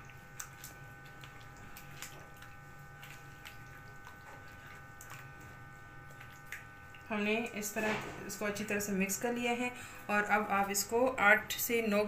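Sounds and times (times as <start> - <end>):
faint hum: 0.0 - 12.0
wet squelches of kneading: 0.0 - 12.0.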